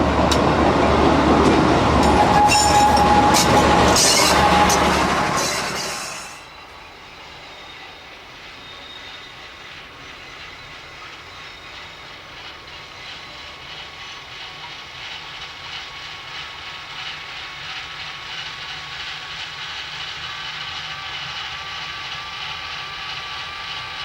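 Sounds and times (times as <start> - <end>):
train rattling past: 0.0 - 24.0
train wheel squeal: 1.4 - 24.0.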